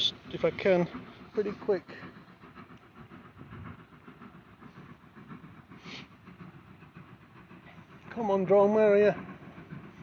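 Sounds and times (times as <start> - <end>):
distant steam train running: 0.0 - 10.0
steam hiss: 0.0 - 10.0.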